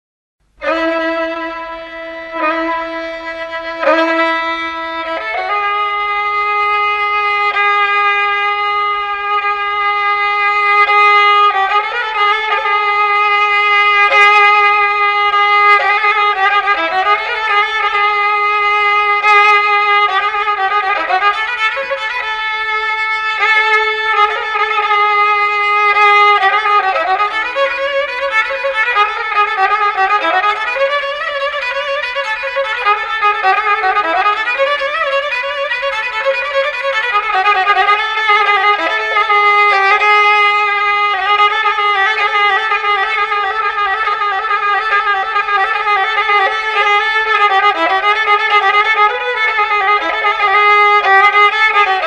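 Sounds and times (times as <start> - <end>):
bowed fiddle folk melody: 0.5 - 52.0.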